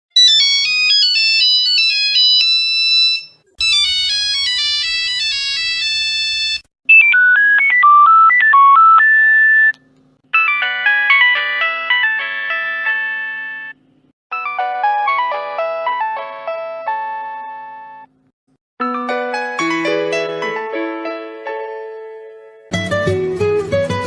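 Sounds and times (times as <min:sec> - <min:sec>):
phone ringtone melodies: 0:00.2 - 0:09.7, 0:10.3 - 0:18.1, 0:18.8 - 0:21.1.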